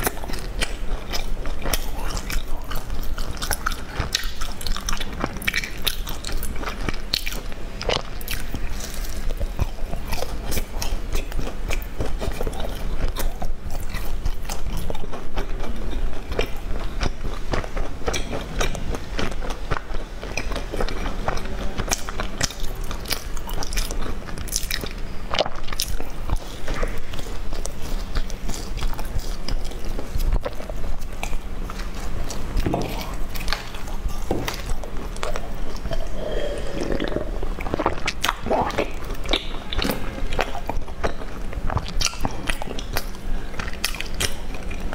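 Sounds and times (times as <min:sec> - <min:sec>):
chewing crunchy snack sticks: 0:00.0 - 0:44.9.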